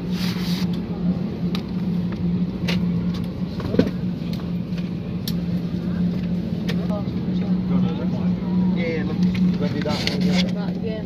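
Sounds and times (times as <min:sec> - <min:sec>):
aircraft cabin hum: 0:00.0 - 0:11.0.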